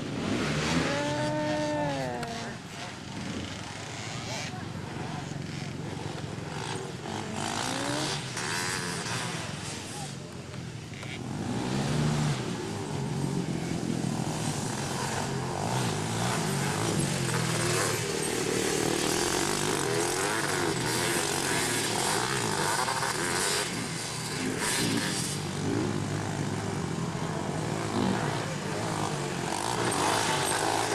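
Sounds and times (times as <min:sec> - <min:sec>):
racing quad engines revving: 0:00.0 - 0:30.9.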